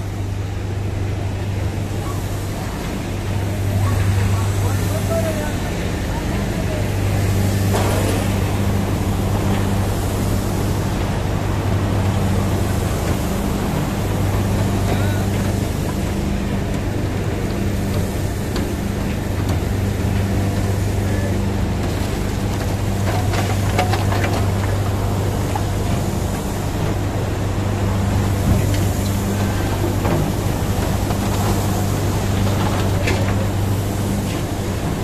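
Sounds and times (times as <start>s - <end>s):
hydraulic machinery humming: 0.0s - 35.0s.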